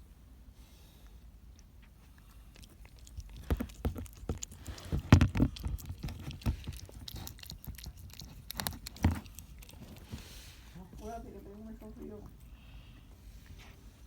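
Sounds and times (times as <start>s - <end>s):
cat chewing and smacking: 0.9s - 13.8s.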